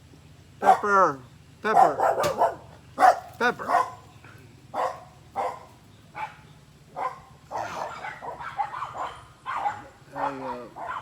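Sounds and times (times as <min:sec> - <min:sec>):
dogs barking: 0:00.6 - 0:01.0, 0:01.6 - 0:04.1, 0:04.7 - 0:11.0.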